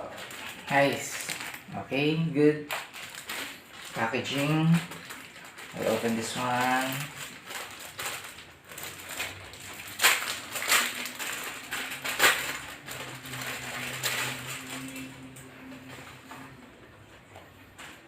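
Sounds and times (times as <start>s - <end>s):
packaging ripping: 0.0s - 1.8s, 2.6s - 16.6s
packaging crinkling: 0.0s - 18.0s.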